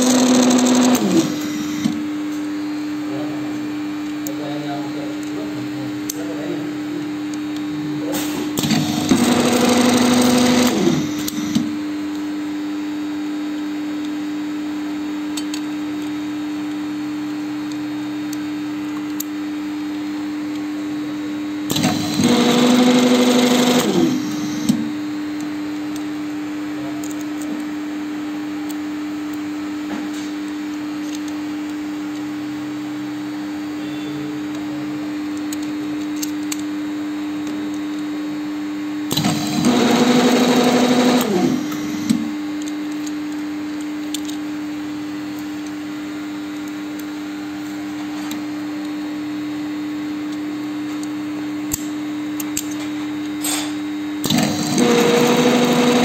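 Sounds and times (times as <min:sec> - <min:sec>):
machine motor humming: 0:00.0 - 0:14.7, 0:15.3 - 0:56.0.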